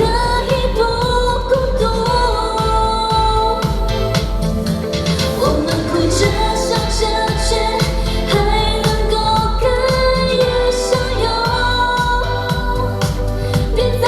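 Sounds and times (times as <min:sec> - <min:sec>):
drum beat and bass backing track: 0:00.0 - 0:14.0
woman singing: 0:00.0 - 0:14.0.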